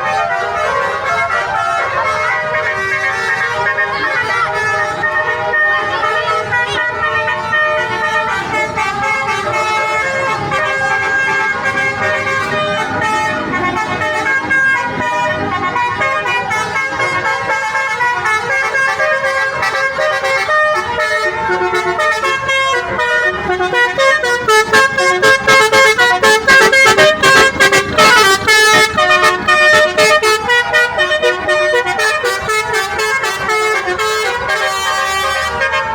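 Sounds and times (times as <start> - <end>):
multi-tone musical bus horn: 0.0 - 35.9.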